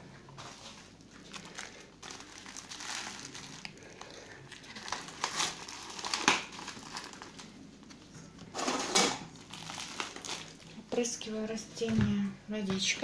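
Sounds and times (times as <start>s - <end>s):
plastic crinkling and rustling: 0.3s - 11.2s.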